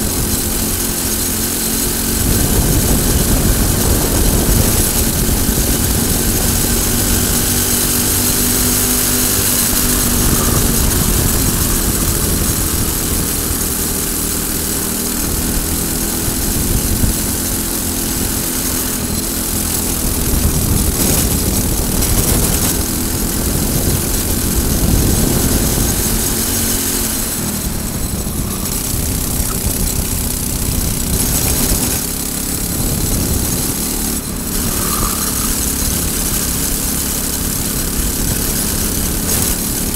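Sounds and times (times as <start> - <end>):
kart engine revving hard: 0.0 - 39.9
wind rushing over microphone: 0.0 - 39.9.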